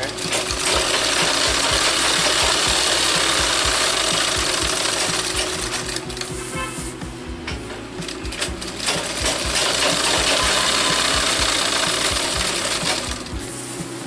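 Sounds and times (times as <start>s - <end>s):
sewing machine stitching: 0.0s - 6.8s, 8.0s - 13.4s.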